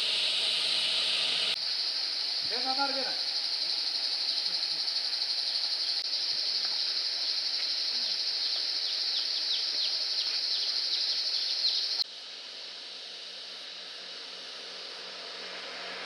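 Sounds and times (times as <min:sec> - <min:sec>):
night insects chorus: 0:00.0 - 0:16.0.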